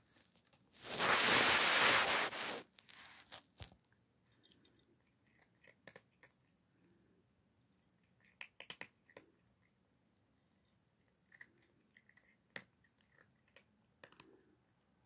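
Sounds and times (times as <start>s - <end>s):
cat crunching dry kibble: 0.1s - 7.1s, 8.0s - 14.8s.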